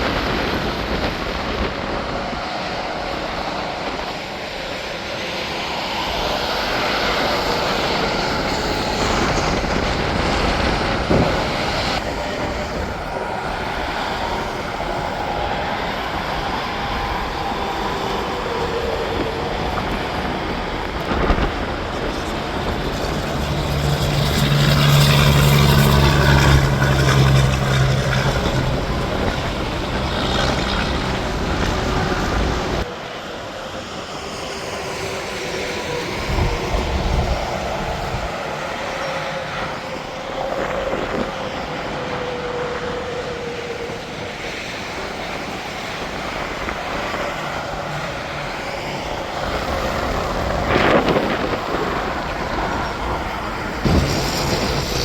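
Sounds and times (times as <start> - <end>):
highway traffic: 0.0 - 55.0
trucks passing at speed: 0.0 - 55.0.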